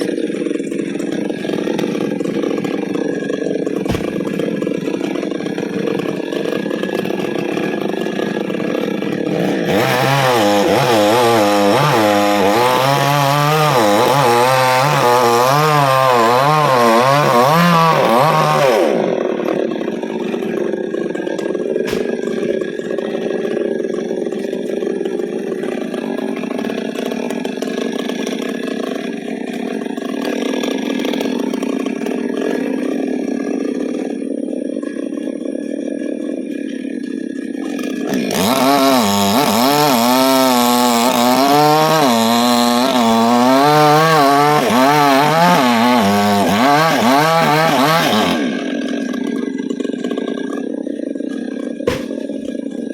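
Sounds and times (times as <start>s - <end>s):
chainsaw idling and cutting wood: 0.0s - 52.9s.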